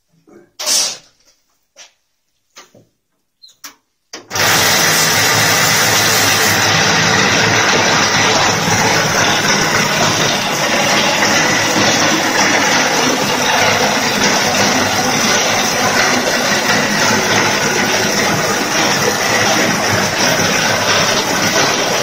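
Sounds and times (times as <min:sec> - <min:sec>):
plastering machine motor running: 0:04.3 - 0:22.0.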